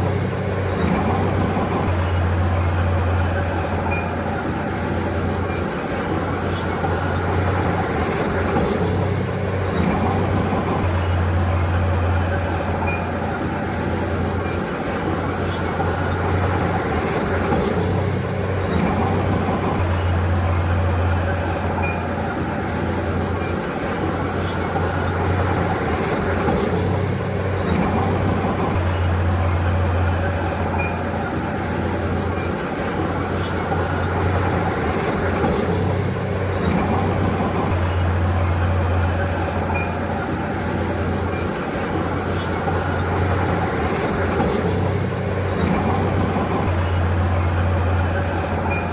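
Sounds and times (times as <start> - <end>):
diesel earthmoving machine engine drone: 0.0 - 48.9
mechanical clatter: 0.0 - 48.9
metallic squeaks from steel tracks: 0.0 - 48.9.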